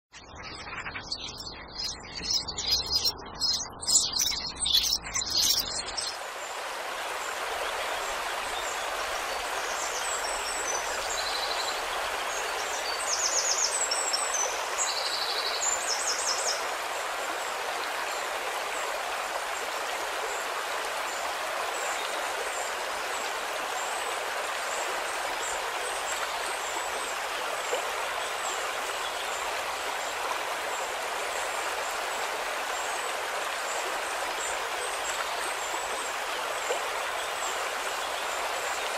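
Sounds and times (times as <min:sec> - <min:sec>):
running water rushing: 0:01.0 - 0:38.9.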